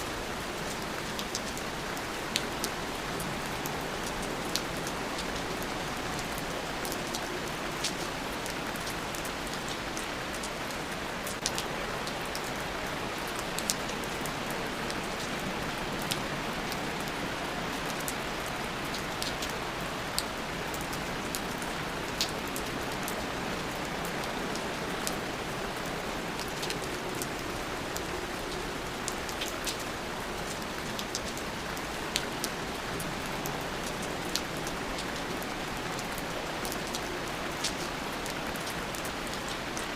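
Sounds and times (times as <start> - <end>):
raindrops dripping close by: 0.0 - 39.9
steady rain hiss: 0.0 - 39.9.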